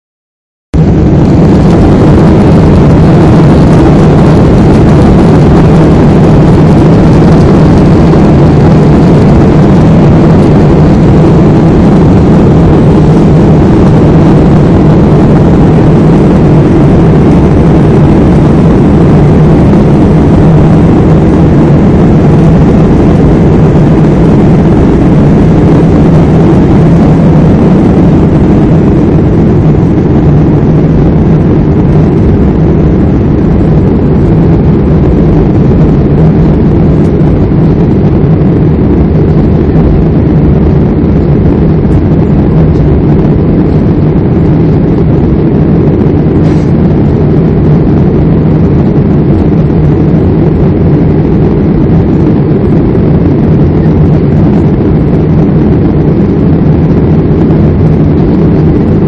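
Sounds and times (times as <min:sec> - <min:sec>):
jet engines roaring in cabin: 0:00.8 - 0:59.0.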